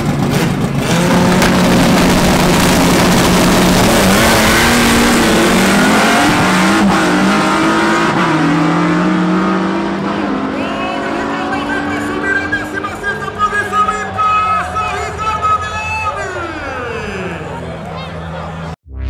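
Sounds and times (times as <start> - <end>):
race car engines revving high: 0.0 - 15.7.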